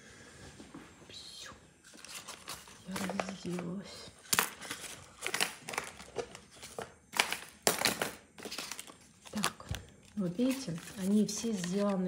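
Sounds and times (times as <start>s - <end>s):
crinkly material rustling: 1.8s - 12.0s.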